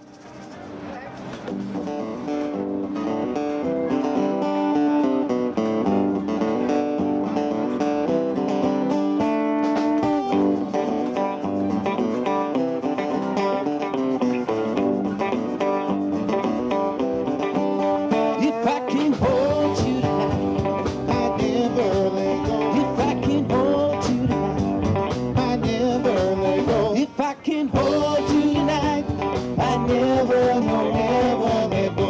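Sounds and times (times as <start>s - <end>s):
drums: 0.0s - 27.1s, 27.7s - 32.0s
electric guitar: 0.0s - 32.0s
strummed acoustic guitar: 0.0s - 32.0s.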